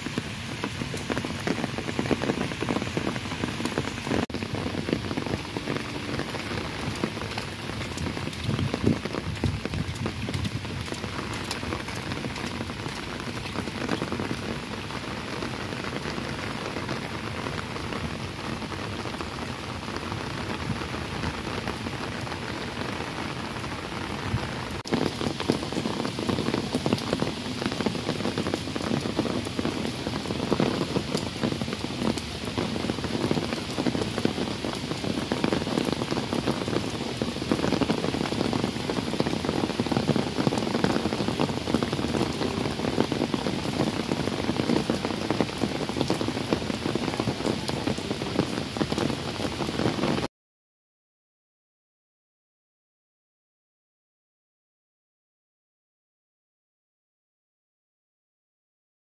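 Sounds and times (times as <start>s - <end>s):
rain on paved path: 0.0s - 50.3s
rain pattering on umbrella: 0.0s - 50.3s.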